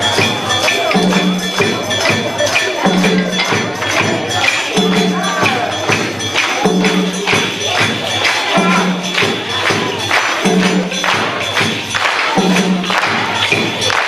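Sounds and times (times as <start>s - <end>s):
percussion music with drums and shaker: 0.0s - 14.0s.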